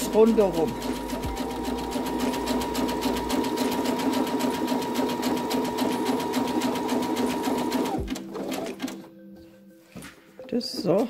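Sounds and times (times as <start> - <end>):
sewing machine stitching: 0.0 - 9.0.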